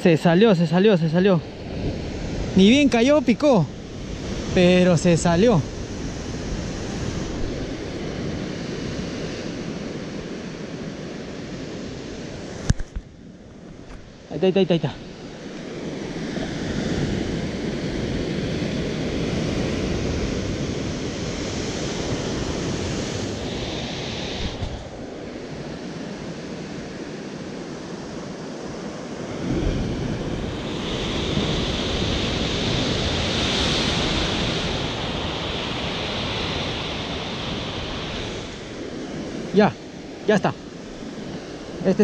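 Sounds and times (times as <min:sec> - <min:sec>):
ocean surf breaking on rocks: 0:00.0 - 0:42.0
wind buffeting microphone: 0:01.4 - 0:14.3, 0:14.9 - 0:26.3, 0:29.2 - 0:42.0.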